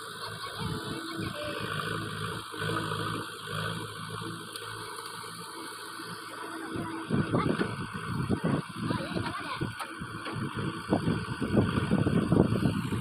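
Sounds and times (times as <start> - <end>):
branches crackling and scraping: 0.0 - 10.6
diesel engine running: 0.0 - 13.0.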